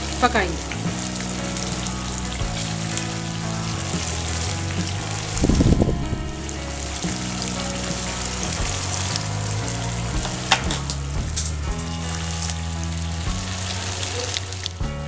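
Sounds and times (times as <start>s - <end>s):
background music with bass: 0.0s - 15.0s
gravy bubbling and sizzling: 0.0s - 15.0s.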